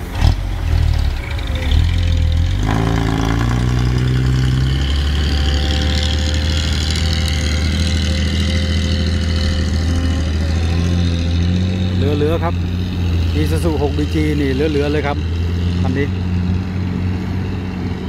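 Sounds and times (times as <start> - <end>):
diesel engine running under load: 0.0 - 18.0
steady whine: 0.0 - 18.0.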